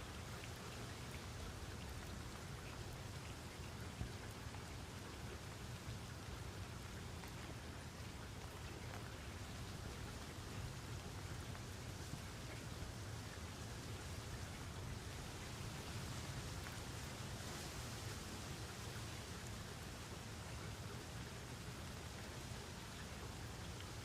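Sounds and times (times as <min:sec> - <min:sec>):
raindrops pattering: 0:00.0 - 0:24.0
steady rain hiss: 0:00.0 - 0:24.0.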